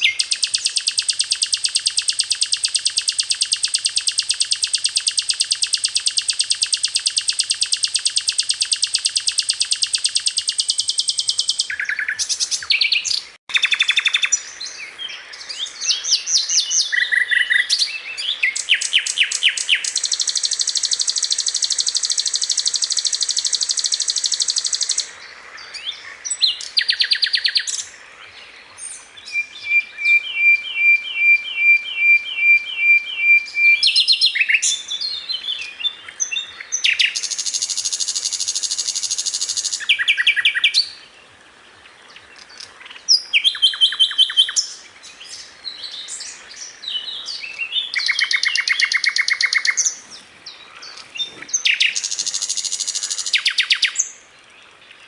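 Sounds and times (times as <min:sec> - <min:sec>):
even bird chirps: 0:00.0 - 0:27.9, 0:28.8 - 0:41.0, 0:42.1 - 0:54.2
flycatcher singing: 0:00.0 - 0:27.9, 0:28.7 - 0:41.0, 0:42.3 - 0:54.2.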